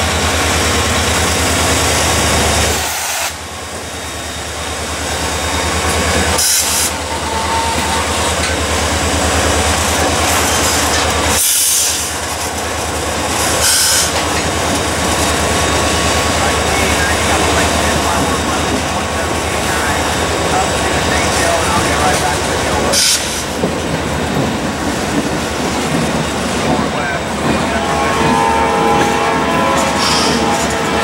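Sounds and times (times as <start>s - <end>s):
diesel locomotive engines throbbing: 0.0s - 31.0s
steel wheels rumbling on rail: 0.0s - 31.0s.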